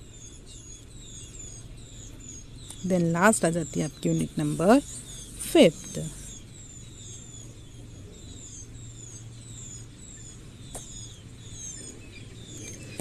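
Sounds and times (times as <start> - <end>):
bird chirping: 0.0 - 13.0
faint low hum: 0.0 - 13.0.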